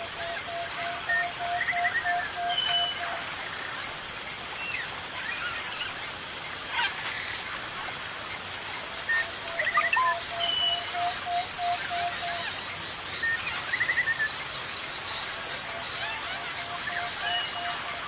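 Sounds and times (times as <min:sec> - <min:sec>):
birds chirping and calling: 0:00.0 - 0:18.0
steady background hiss: 0:00.0 - 0:18.0.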